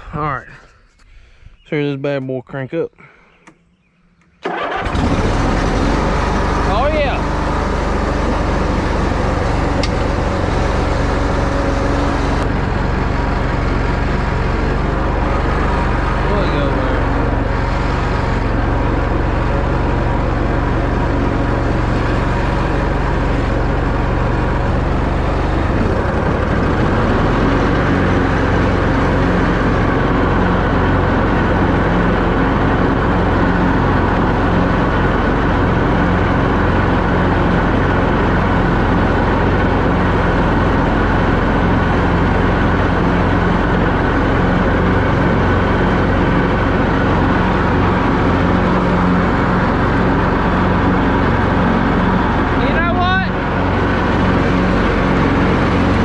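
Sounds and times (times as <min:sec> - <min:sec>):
lawn mower engine running: 0:04.4 - 0:56.0.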